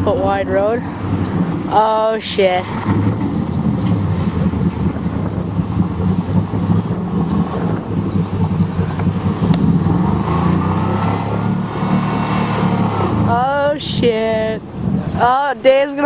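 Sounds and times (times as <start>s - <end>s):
truck engine running hard: 0.0s - 16.0s
wind buffeting microphone: 0.0s - 16.0s.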